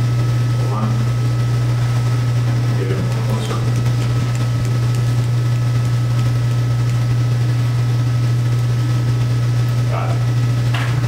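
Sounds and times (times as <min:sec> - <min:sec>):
low hum with whining tones: 0:00.0 - 0:11.0.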